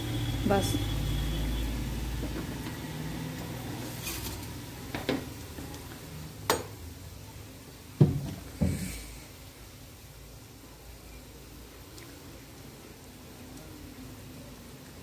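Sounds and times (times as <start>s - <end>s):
water boiling in a pot: 0.0s - 15.0s.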